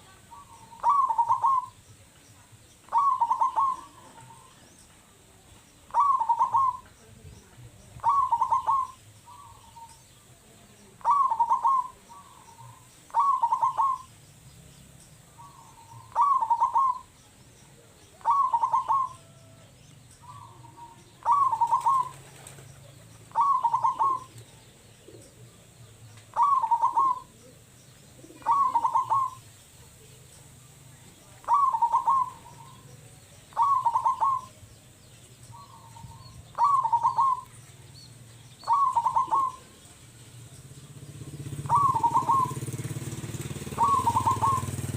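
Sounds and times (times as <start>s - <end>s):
dove cooing: 0.0s - 1.8s, 2.8s - 4.7s, 5.8s - 14.2s, 15.3s - 17.2s, 17.8s - 30.1s, 31.1s - 34.9s, 35.5s - 37.7s, 38.5s - 40.3s, 40.9s - 44.9s.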